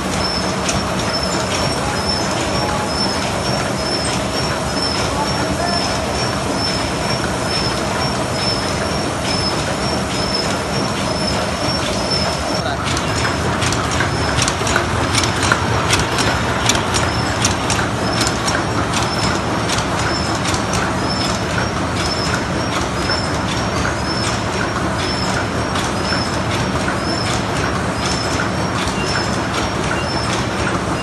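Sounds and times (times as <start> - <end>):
machine mechanical din: 0.0 - 31.0.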